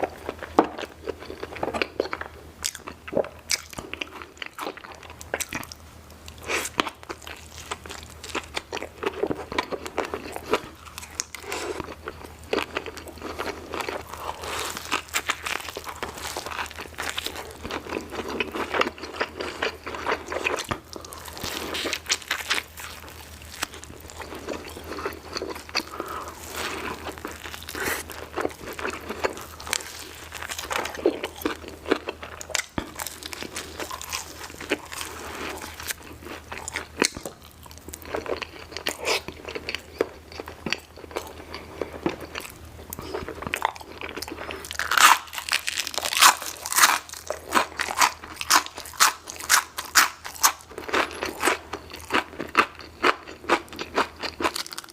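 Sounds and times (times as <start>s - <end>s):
close chewing and biting: 0.0s - 54.9s.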